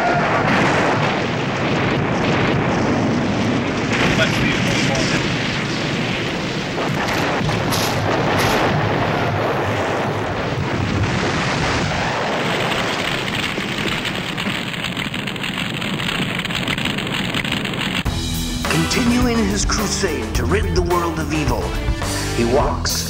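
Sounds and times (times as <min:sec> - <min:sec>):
explosion rumble: 0:00.0 - 0:22.2.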